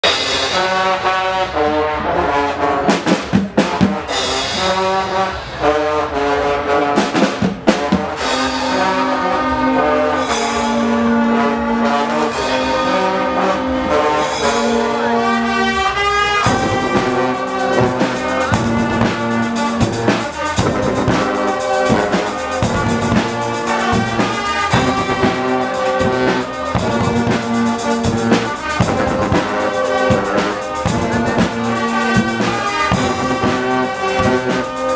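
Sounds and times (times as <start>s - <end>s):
drum and cymbal accents: 0.0s - 1.7s, 2.8s - 5.6s, 7.0s - 34.9s
brass band playing: 0.0s - 34.9s.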